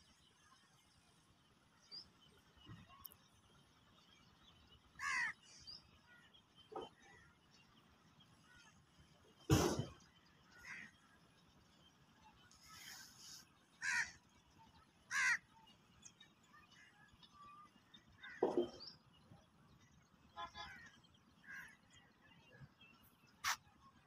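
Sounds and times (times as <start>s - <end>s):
birds calling: 4.5s - 23.8s.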